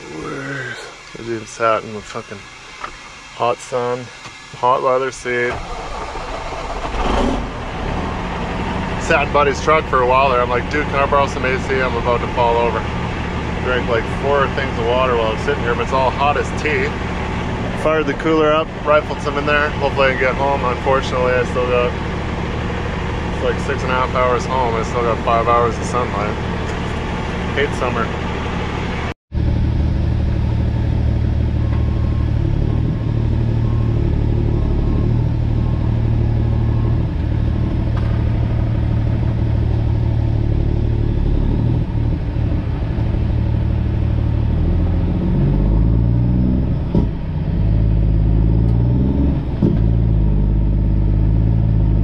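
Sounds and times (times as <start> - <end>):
diesel truck engine rumble: 0.0 - 52.0.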